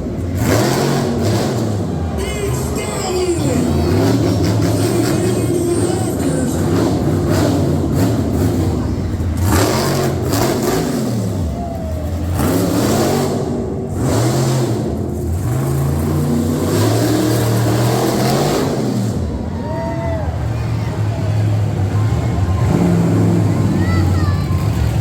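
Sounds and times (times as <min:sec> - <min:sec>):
vehicle engine revving: 0:00.0 - 0:25.0.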